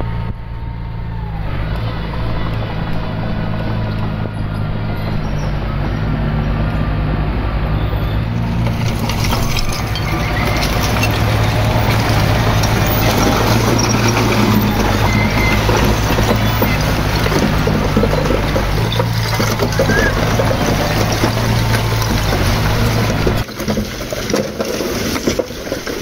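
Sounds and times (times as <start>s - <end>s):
bulldozer diesel engine running: 0.0s - 26.0s
dirt and rock rattling: 1.4s - 26.0s.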